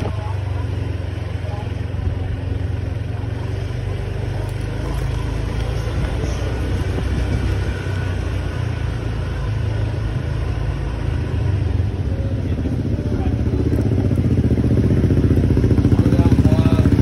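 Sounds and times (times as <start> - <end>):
road and traffic noise: 0.0 - 17.0
scooter engine hum: 0.0 - 17.0.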